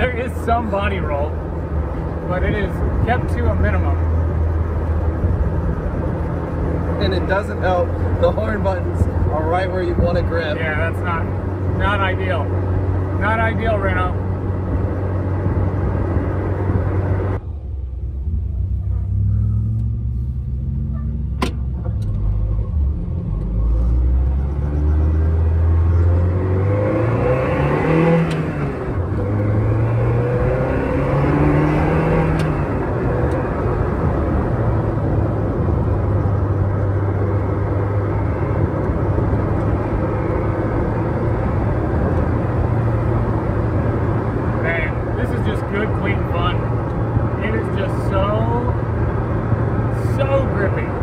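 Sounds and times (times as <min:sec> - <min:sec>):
car engine accelerating: 0:00.0 - 0:51.0
wind and road noise: 0:00.0 - 0:51.0.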